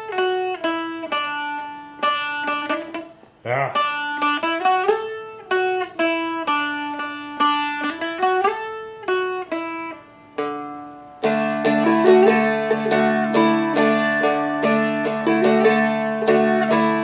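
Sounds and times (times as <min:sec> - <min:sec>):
guitar chords strummed: 0:00.0 - 0:17.0
guitar riff with slides: 0:00.0 - 0:17.0.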